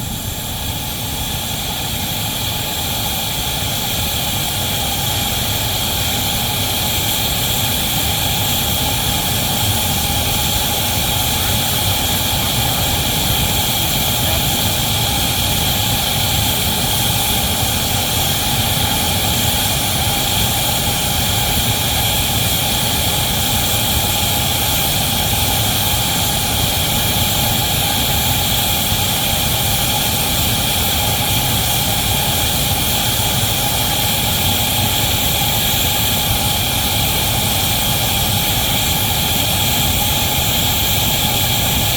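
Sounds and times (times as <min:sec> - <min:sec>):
train running noise: 0:00.0 - 0:41.9.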